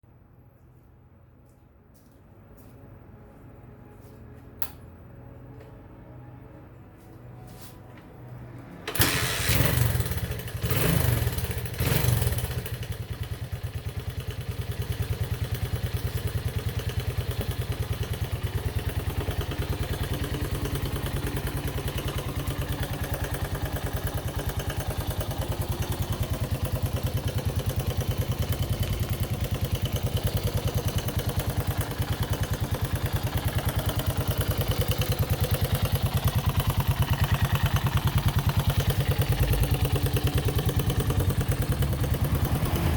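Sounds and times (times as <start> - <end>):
motorcycle engine starting and idling: 8.0 - 42.9.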